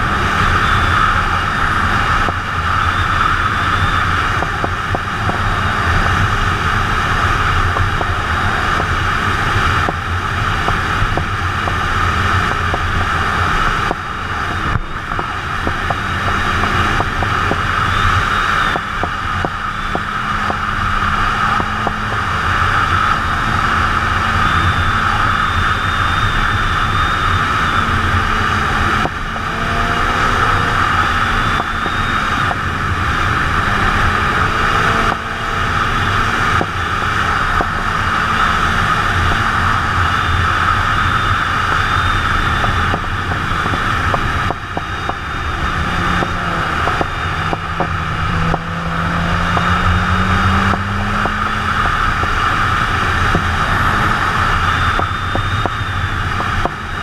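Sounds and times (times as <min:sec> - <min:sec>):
heavy wind rush: 0:00.0 - 0:57.0
motorcycle engine drone: 0:00.0 - 0:57.0.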